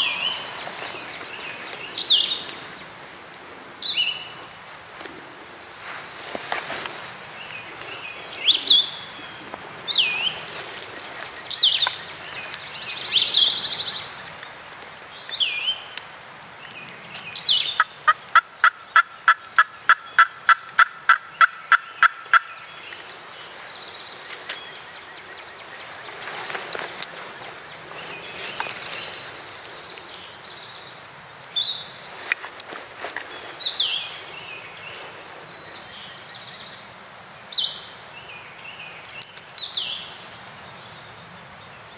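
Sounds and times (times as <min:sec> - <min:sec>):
songbird chirps: 0:00.0 - 0:03.0, 0:05.4 - 0:41.9.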